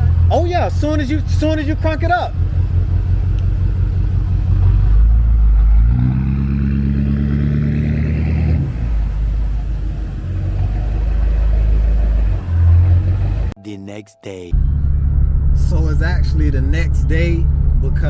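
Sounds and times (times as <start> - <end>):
car engine idling and revving: 0.0 - 13.6, 14.6 - 18.0.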